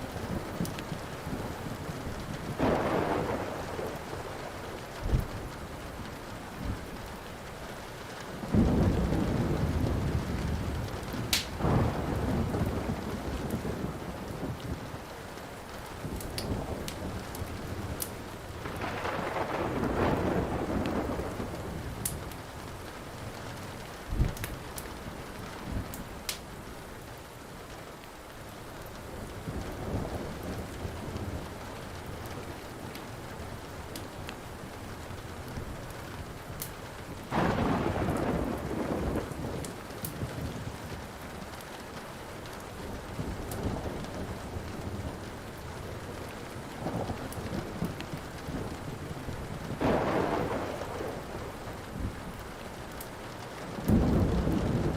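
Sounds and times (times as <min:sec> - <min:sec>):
thunder rumbling: 0:00.0 - 0:07.4, 0:08.4 - 0:26.4, 0:28.9 - 0:54.9
steady rain: 0:00.0 - 0:54.9
wood fire crackling: 0:00.0 - 0:54.9.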